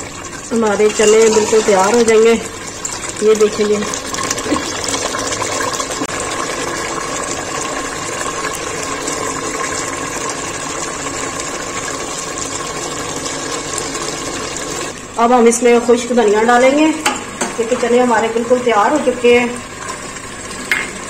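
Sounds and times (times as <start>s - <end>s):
curry bubbling and sizzling: 0.0s - 21.0s.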